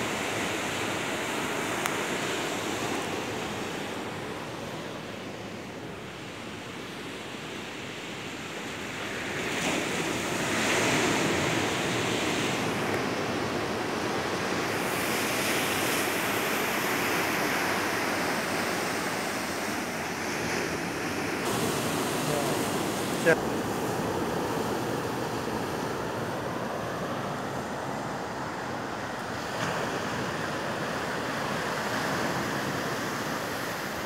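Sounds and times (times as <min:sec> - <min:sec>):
sea waves washing among boulders: 0:00.0 - 0:34.0.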